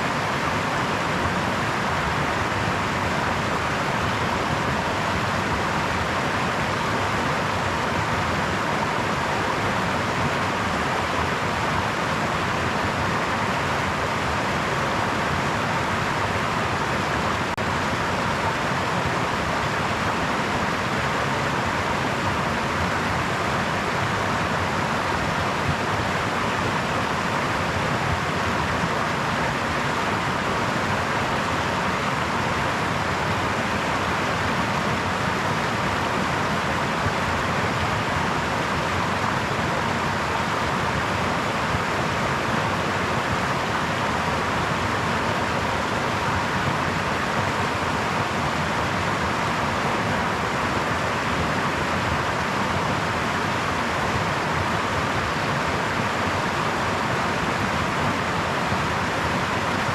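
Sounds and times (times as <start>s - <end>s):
brook water babbling over stones: 0.0s - 59.9s.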